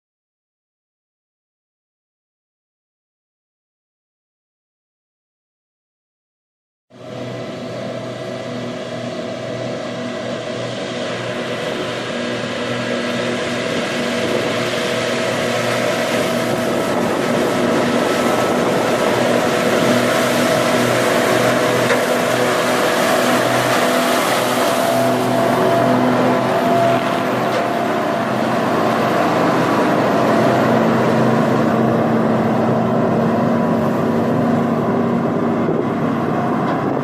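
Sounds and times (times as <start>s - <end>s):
mower rushing noise: 6.9s - 37.0s
tractor engine drone: 6.9s - 37.0s.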